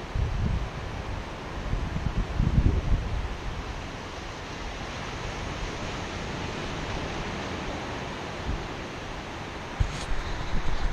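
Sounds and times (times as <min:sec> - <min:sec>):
surf breaking on a beach: 0:00.0 - 0:10.9
wind rumbling on microphone: 0:00.0 - 0:10.9.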